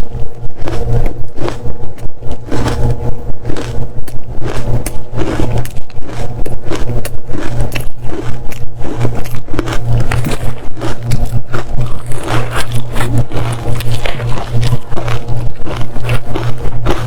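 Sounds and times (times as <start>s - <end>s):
crunchy chewing of ice: 0.0s - 17.0s
low hum: 0.0s - 17.0s.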